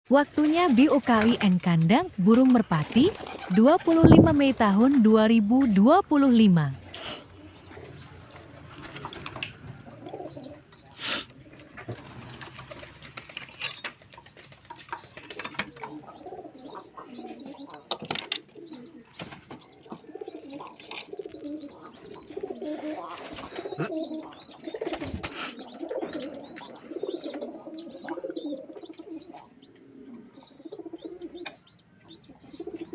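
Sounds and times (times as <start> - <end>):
pigeons cooing: 0.2 - 32.9.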